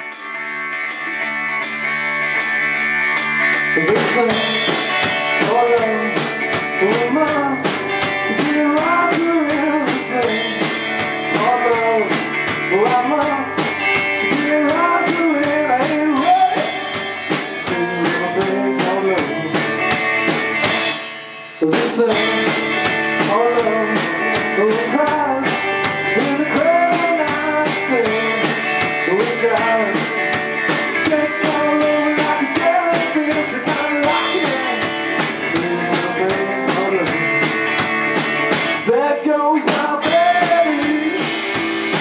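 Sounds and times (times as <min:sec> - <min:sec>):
drum kit: 0:00.0 - 0:42.0
electric guitars: 0:00.0 - 0:42.0.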